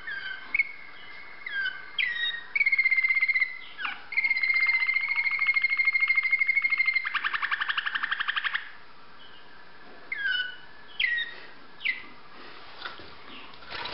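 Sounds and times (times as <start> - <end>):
canary singing trill: 0.0 - 12.1.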